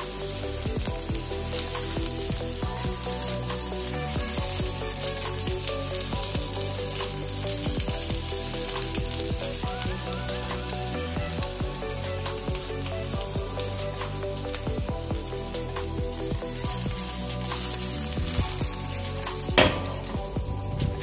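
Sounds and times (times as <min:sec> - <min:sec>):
background music: 0:00.0 - 0:21.0
hot oil sizzling and crackling: 0:00.0 - 0:21.0.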